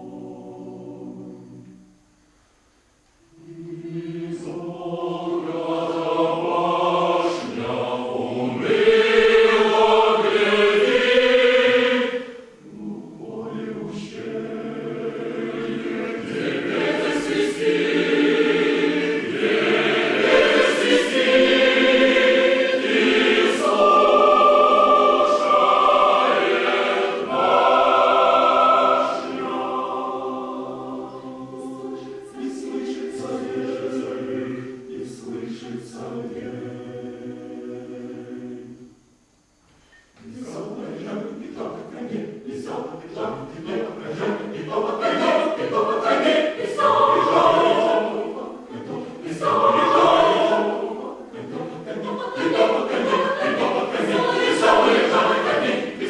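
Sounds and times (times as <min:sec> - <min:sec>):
choir singing: 0:00.0 - 0:01.9, 0:03.3 - 0:39.1, 0:40.2 - 0:56.0.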